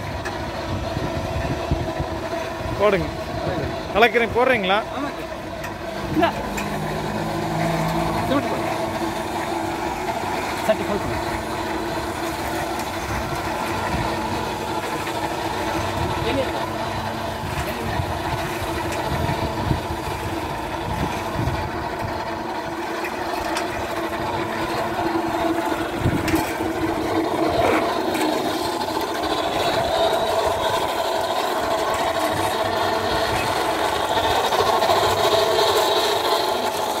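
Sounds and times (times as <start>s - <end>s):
concrete mixer motor hum: 0.0s - 37.0s.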